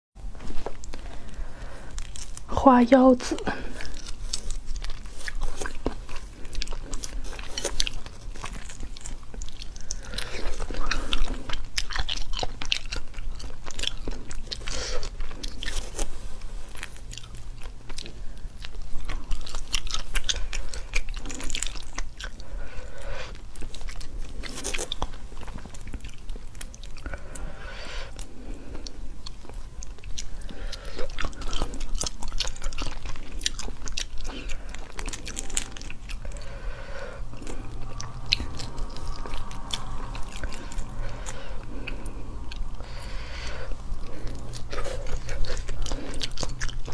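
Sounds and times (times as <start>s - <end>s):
crunching and chewing shrimp: 0.2s - 46.9s.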